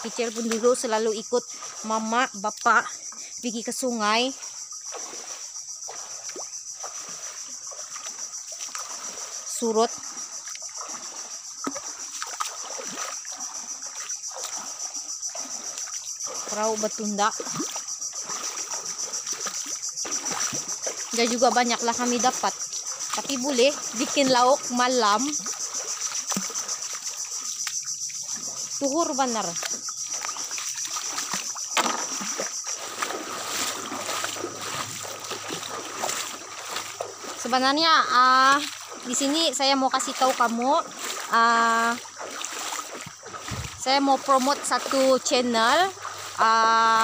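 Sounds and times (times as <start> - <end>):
boots sloshing through water: 0.0 - 47.0.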